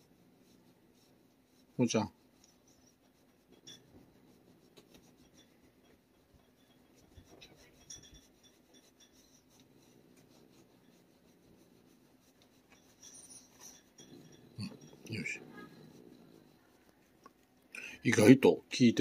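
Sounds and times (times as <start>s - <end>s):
glove rubbing against cat fur: 0.0s - 19.0s.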